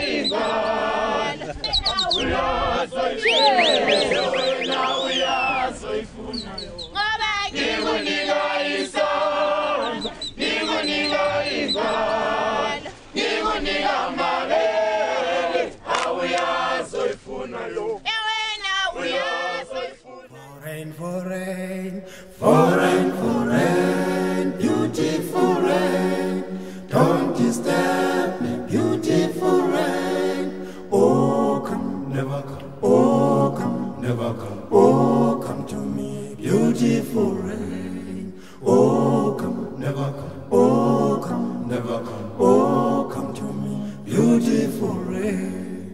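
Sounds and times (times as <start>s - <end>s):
a cappella choir singing: 0.0s - 18.1s, 18.7s - 45.9s.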